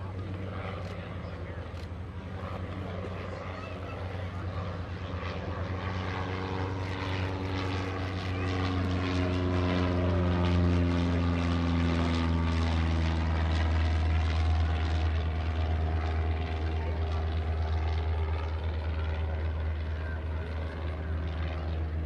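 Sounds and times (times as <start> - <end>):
propeller plane flying past: 0.0 - 22.0.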